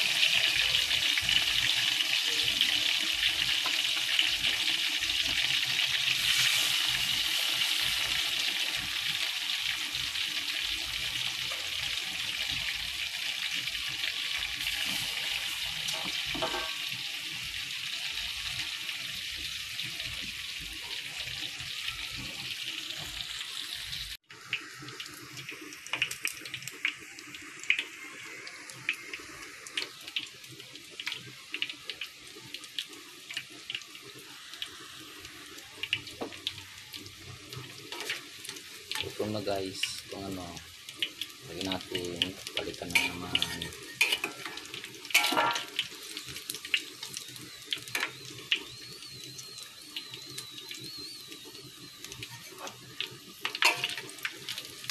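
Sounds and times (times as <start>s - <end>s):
deep-frying sizzle in oil: 0.0s - 54.9s
oil popping and crackling: 0.0s - 54.9s.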